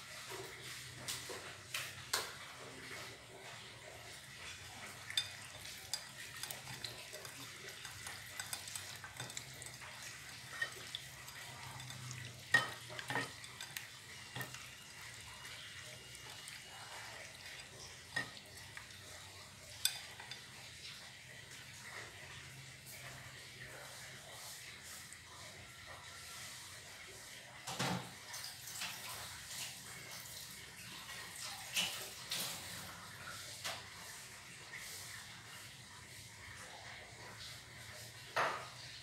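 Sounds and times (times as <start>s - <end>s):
food sizzling in a clay pot: 0.0s - 39.0s.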